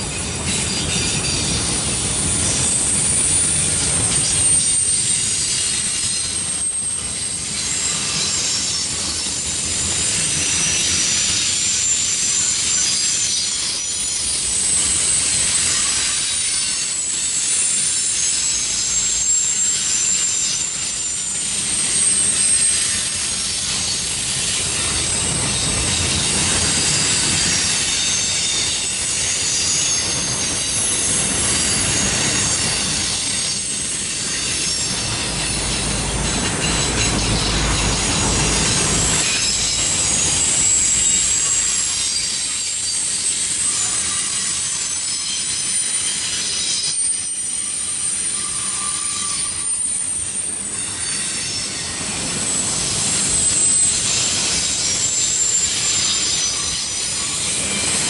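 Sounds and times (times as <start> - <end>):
steel wheels rolling on rail: 0.0 - 58.0
high-pitched wheel squeal: 0.1 - 58.0.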